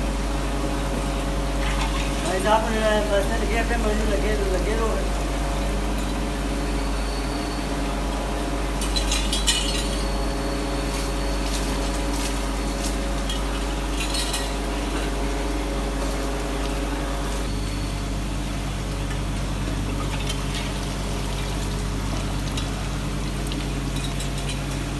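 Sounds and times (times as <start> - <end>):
machinery humming: 0.0 - 24.9.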